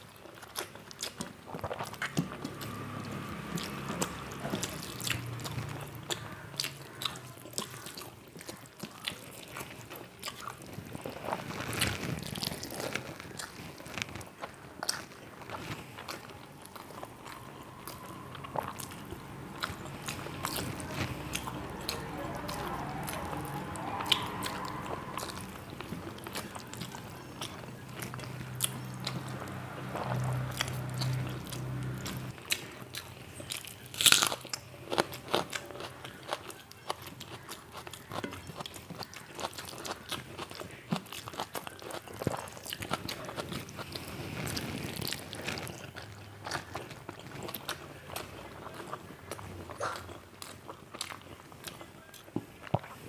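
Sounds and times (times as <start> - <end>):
person chewing crunchy food: 0.0 - 53.0.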